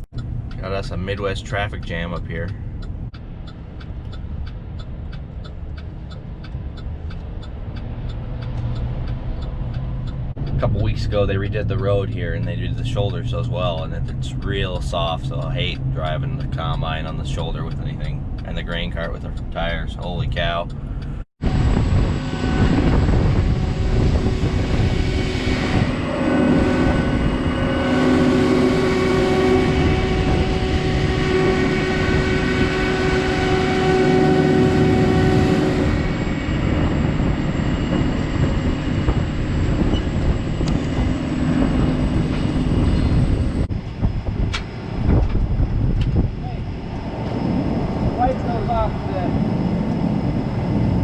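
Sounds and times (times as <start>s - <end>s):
engine drone: 0.0s - 51.0s
road noise: 0.0s - 51.0s
steady pitched hum: 10.1s - 51.0s.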